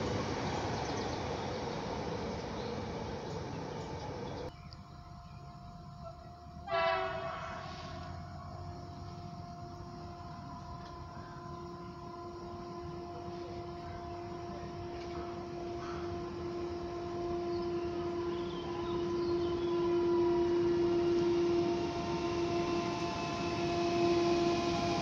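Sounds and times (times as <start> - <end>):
electric train traction whine: 0.0 - 25.0
train running rumble: 0.0 - 25.0.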